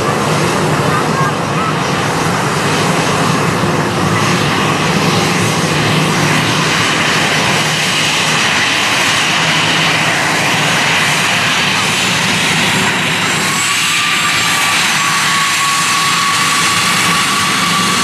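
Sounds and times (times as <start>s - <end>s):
jet engines rumble and whine: 0.0s - 18.0s.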